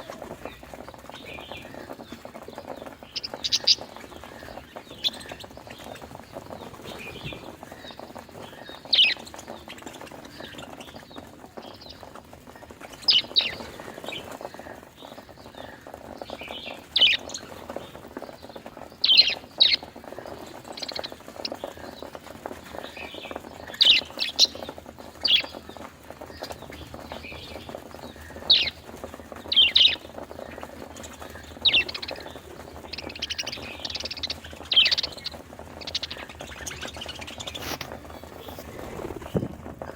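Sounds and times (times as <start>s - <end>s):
soft bird chatter: 0.0s - 39.9s
budgerigars chirping: 0.1s - 22.2s, 22.8s - 39.4s.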